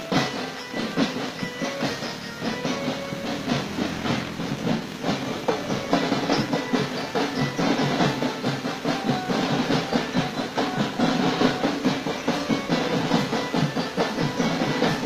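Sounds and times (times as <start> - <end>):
held melody notes: 0.0 - 15.0
marching drums: 0.0 - 15.0.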